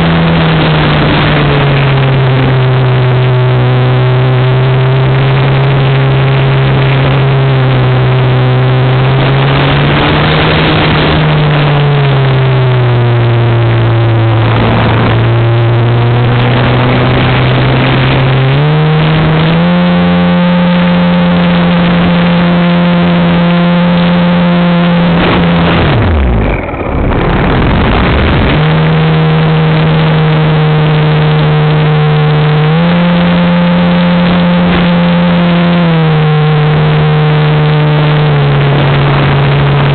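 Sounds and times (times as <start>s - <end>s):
air rushing over microphone: 0.0s - 39.9s
model plane propeller drone: 0.0s - 39.9s.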